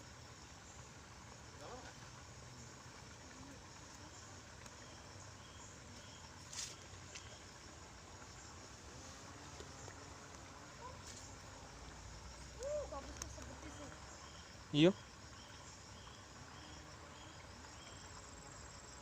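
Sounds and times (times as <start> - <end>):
insect chirps: 0.0 - 19.0
outdoor background by river: 0.0 - 19.0.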